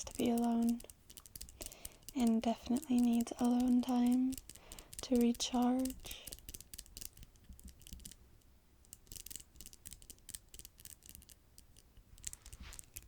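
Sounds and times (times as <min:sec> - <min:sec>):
fingernails tapping and scratching: 0:00.0 - 0:08.2, 0:08.9 - 0:13.0.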